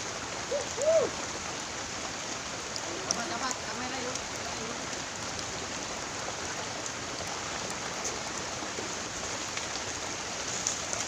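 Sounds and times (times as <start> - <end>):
steady hiss of water: 0.0 - 11.0.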